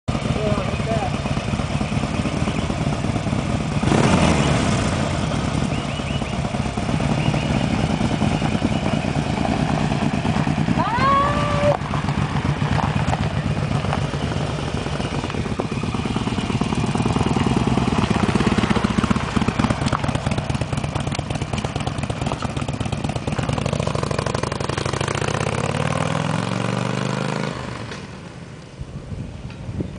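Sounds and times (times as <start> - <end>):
motorcycle accelerating away: 0.1 - 28.5
motorcycle riding past: 0.1 - 28.6.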